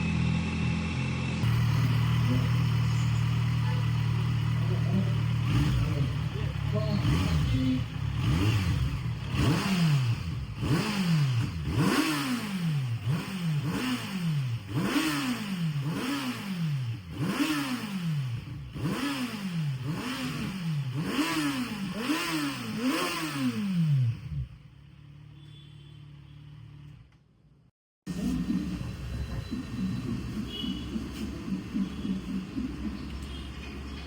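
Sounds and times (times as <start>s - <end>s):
motorcycle engine revving: 0.0s - 27.0s, 28.1s - 34.0s.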